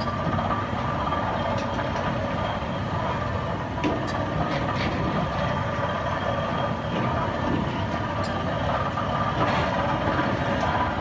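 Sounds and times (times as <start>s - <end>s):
drilling rig diesel engines: 0.0s - 11.0s.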